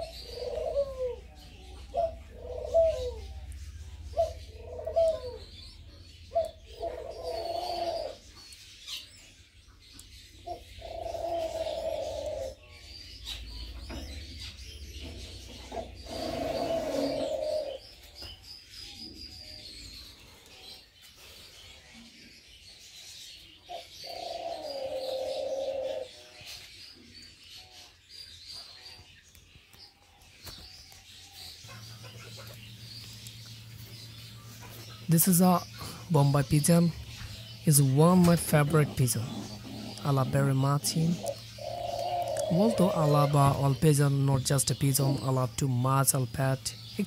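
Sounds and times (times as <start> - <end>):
pigeons cooing: 0.0 - 29.6, 30.5 - 47.0.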